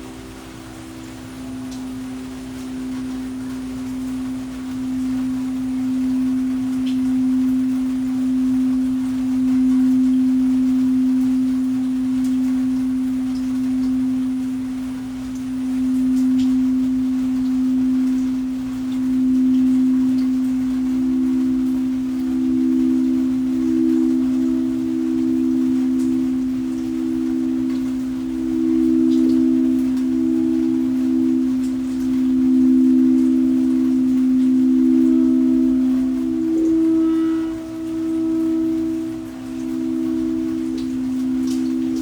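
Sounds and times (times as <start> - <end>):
singing bowl hum: 0.0 - 42.0.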